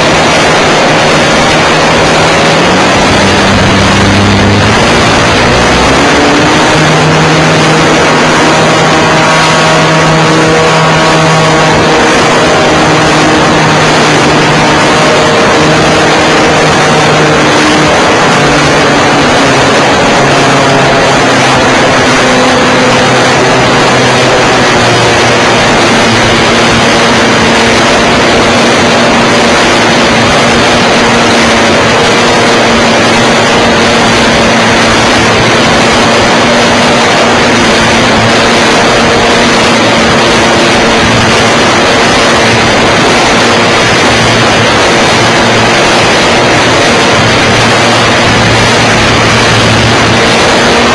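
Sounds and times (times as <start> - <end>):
heavy wind rush: 0.0 - 50.9
model airplane engine at high power: 0.0 - 50.9.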